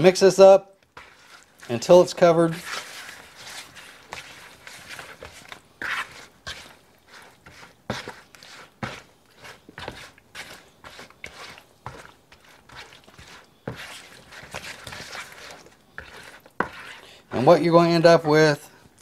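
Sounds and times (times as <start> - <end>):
wet squishes of raw chicken: 0.8 - 1.9, 2.5 - 17.0.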